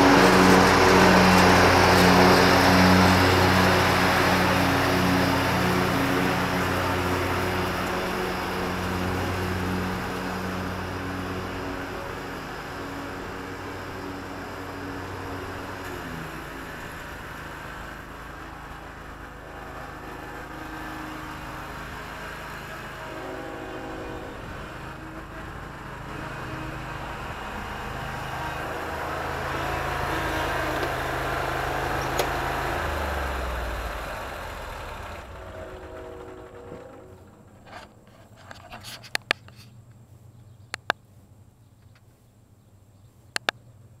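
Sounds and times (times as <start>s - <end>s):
riding lawn mower engine: 0.0s - 44.0s.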